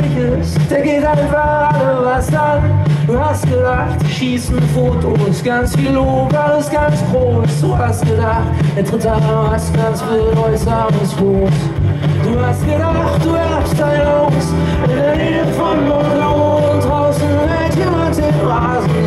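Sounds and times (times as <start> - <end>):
acoustic guitar: 0.0 - 19.0
bass line: 0.0 - 19.0
drums: 0.0 - 19.0
keyboards: 0.0 - 19.0
person singing: 0.0 - 19.0.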